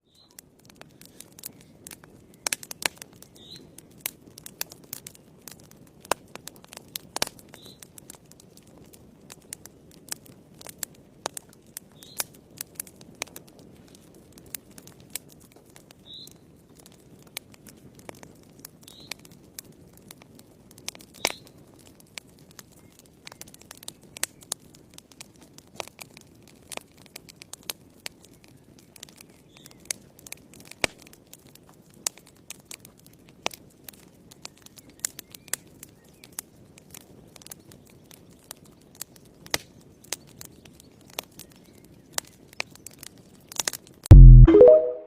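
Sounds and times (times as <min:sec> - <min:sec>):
wood fire crackling and popping: 0:00.1 - 0:44.1.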